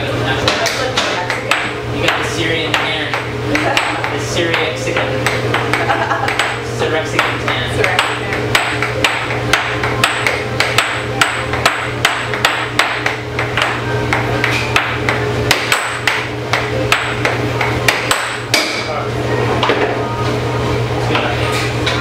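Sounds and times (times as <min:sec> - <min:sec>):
air blower hum: 0:00.0 - 0:22.0
air hockey puck knocking: 0:00.4 - 0:18.9.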